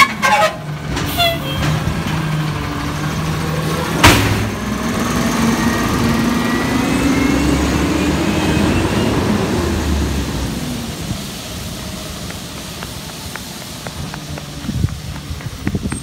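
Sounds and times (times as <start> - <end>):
garbage truck pulling away: 0.0 - 16.0.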